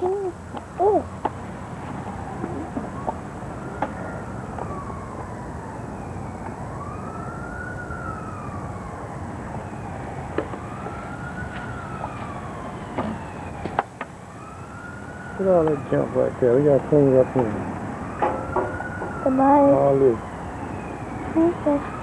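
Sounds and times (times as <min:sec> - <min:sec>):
background noise: 0:00.0 - 0:22.0
siren wailing: 0:02.0 - 0:22.0.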